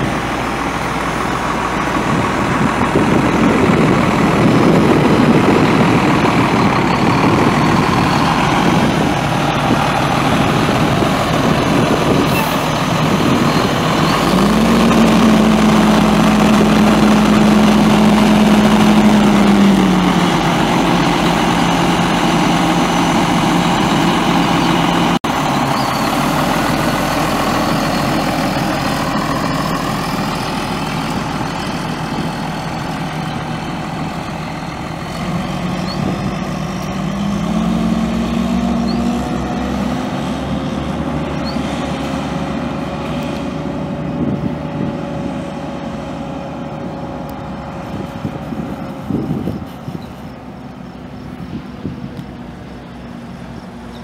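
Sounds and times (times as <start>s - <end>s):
diesel bus engine running: 0.0s - 54.0s.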